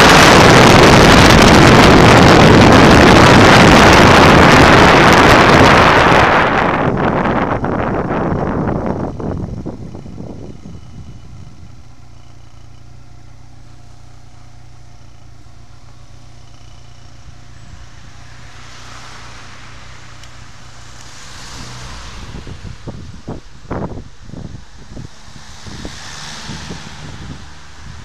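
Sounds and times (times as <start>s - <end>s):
wind buffeting microphone: 0.0s - 12.2s, 14.4s - 28.0s
motorcycle engine running: 0.0s - 28.0s.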